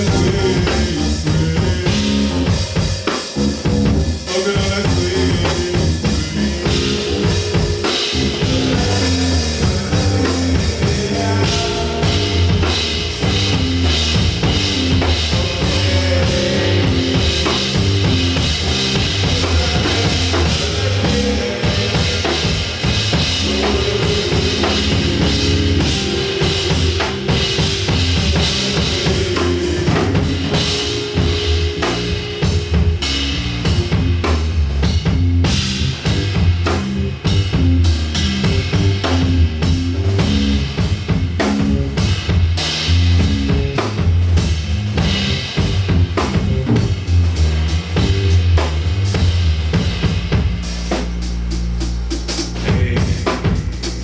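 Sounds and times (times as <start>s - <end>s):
bass line: 0.0s - 54.0s
drum kit: 0.0s - 54.0s
live band playing: 0.0s - 54.0s.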